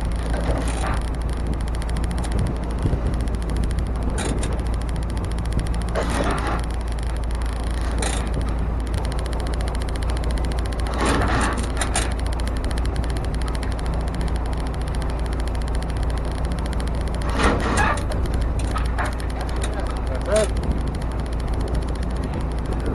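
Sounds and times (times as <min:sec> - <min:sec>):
truck engine and road rumble: 0:00.0 - 0:22.9.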